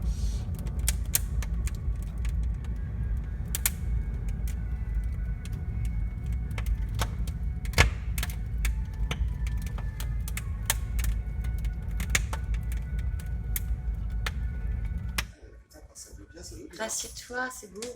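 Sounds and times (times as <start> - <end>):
log popping: 0.0 - 15.4
low rumble: 0.0 - 17.4
wood fire crackling: 0.0 - 17.9.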